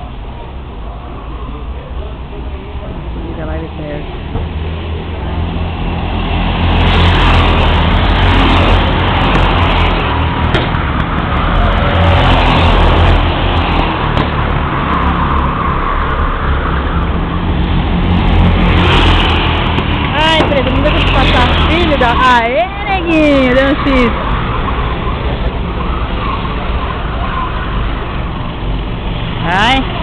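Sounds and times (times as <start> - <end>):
go-kart engines racing past: 0.0 - 30.0.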